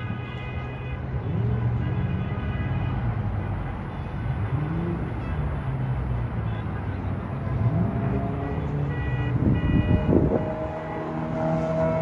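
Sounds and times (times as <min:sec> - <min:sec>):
distant road traffic rumble: 0:00.0 - 0:12.0
multi-tone vehicle horn: 0:00.0 - 0:12.0.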